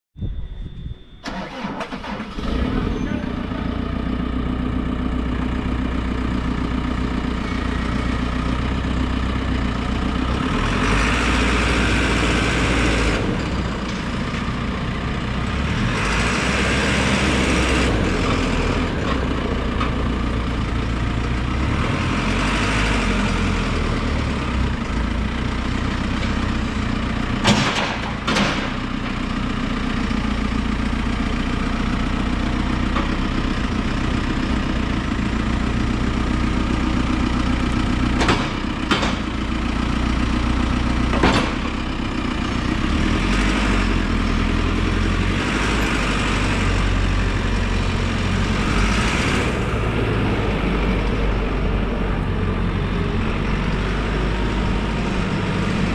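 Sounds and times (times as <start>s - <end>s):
diesel engine idling and revving: 0.3s - 55.9s.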